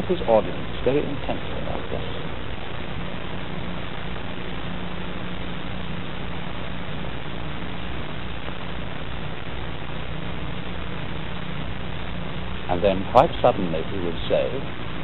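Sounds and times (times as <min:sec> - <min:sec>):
low even hum: 0:00.0 - 0:15.0
steady hiss: 0:00.0 - 0:15.0.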